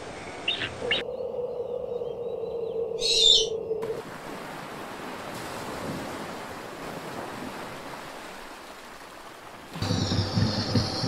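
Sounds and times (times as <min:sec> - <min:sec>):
sea and surf: 0:00.0 - 0:11.0.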